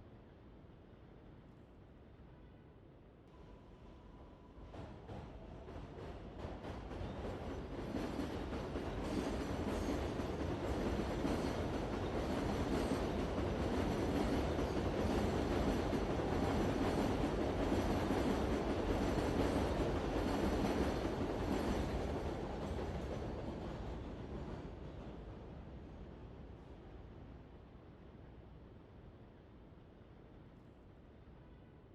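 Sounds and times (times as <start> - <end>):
metro train running on rails: 3.2 - 31.8.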